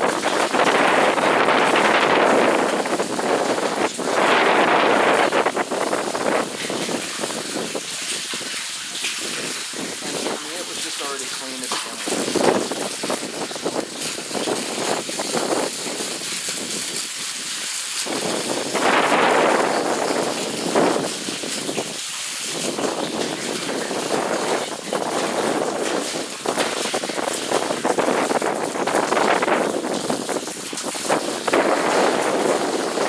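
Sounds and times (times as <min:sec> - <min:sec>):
hose water spraying and splashing: 0:00.0 - 0:33.0
wind on microphone: 0:00.0 - 0:33.0.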